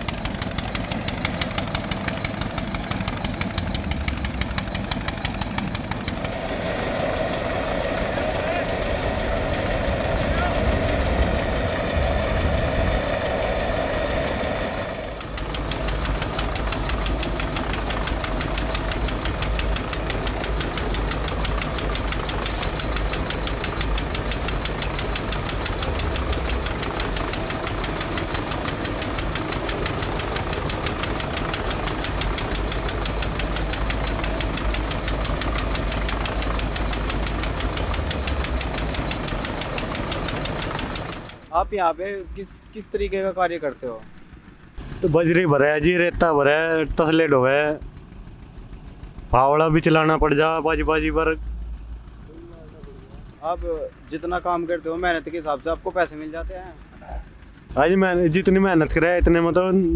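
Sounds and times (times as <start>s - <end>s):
mixing machine engine knocking: 0.0s - 59.9s.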